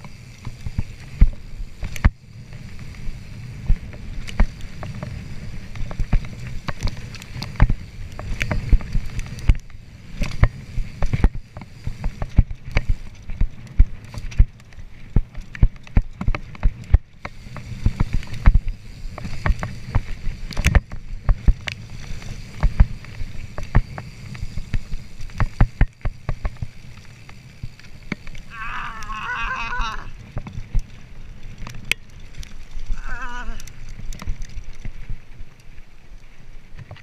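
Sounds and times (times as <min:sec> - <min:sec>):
bike rattling and knocking: 0:00.0 - 0:35.3
rumble of tyres and wind: 0:00.0 - 0:37.0.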